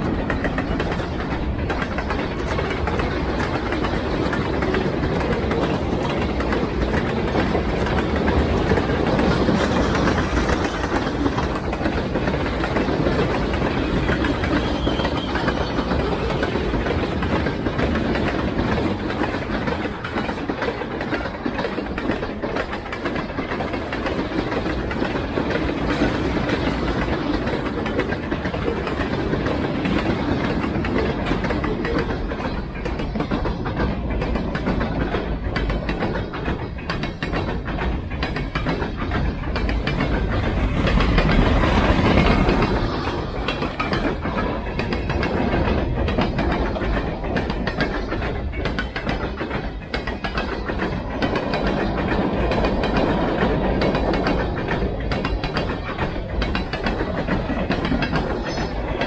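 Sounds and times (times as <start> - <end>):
freight cars rumbling and rattling: 0.0 - 59.0
train wheels clicking over rail joints: 0.0 - 59.0.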